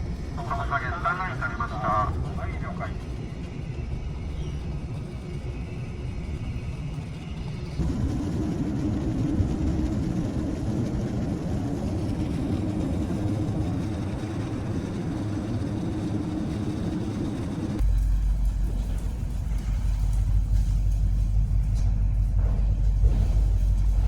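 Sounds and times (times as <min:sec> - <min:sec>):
vehicle rumbling and whirring: 0:00.0 - 0:24.0.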